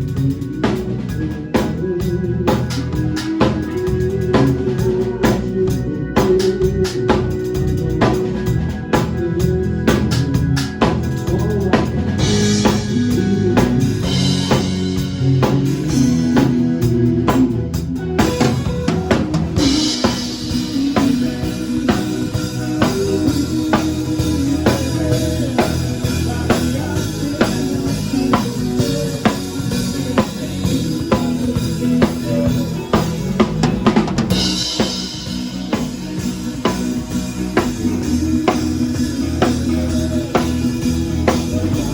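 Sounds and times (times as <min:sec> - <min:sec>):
band playing live: 0:00.0 - 0:41.9
drum kit beat: 0:00.0 - 0:41.9.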